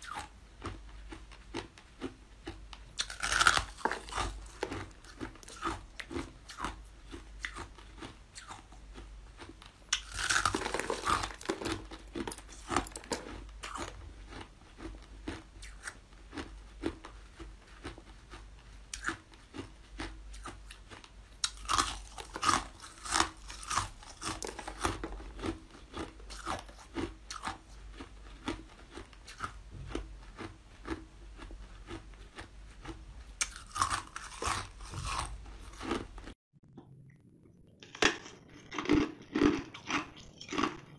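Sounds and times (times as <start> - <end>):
ice being bitten and chewed: 0.0 - 36.4, 37.8 - 40.9.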